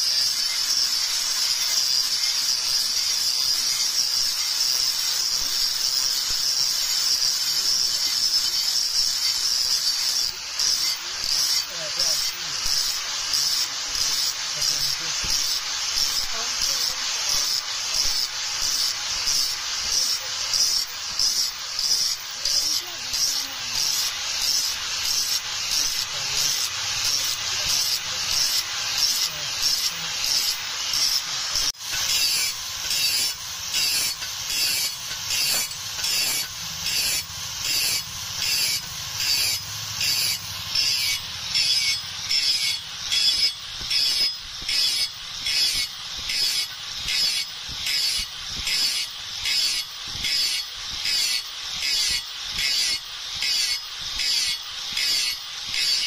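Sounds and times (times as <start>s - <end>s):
abrasive tool rasping on steel: 0.0s - 56.0s.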